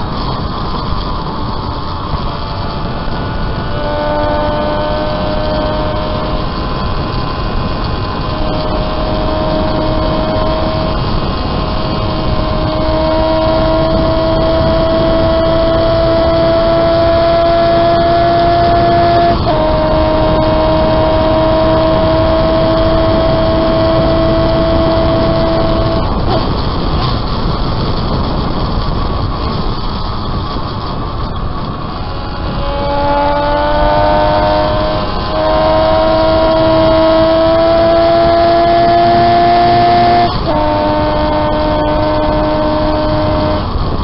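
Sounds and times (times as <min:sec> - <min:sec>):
racing motorcycle engine revving: 0:00.0 - 0:44.0
rushing wind noise: 0:00.0 - 0:44.0.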